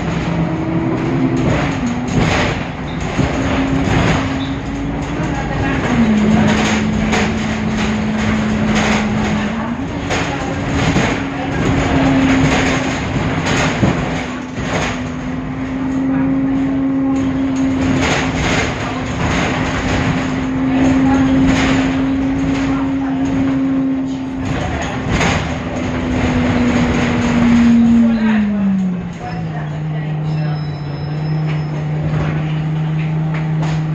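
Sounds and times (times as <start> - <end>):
rattles and knocks: 0.0 - 16.1, 16.9 - 29.3
bus drivetrain whine: 0.0 - 33.9
low engine rumble: 0.0 - 33.9.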